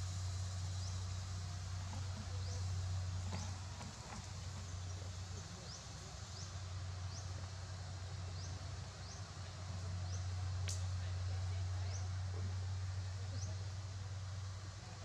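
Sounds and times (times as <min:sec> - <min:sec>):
faint hiss: 0:00.0 - 0:15.0
steady low hum: 0:00.0 - 0:15.0.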